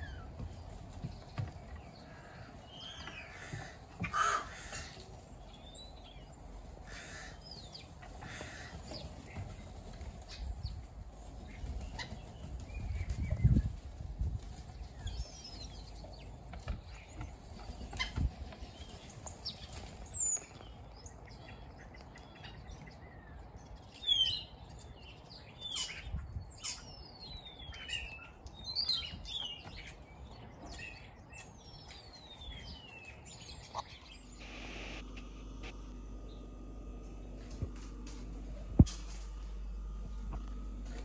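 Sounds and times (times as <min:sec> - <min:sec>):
starlings chirping: 0:00.0 - 0:14.0, 0:14.6 - 0:35.0.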